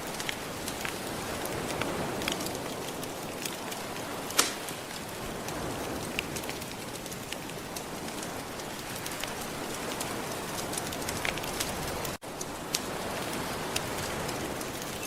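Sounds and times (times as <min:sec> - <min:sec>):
fire crackling and popping: 0:00.0 - 0:15.0
gentle ocean waves: 0:00.0 - 0:15.0.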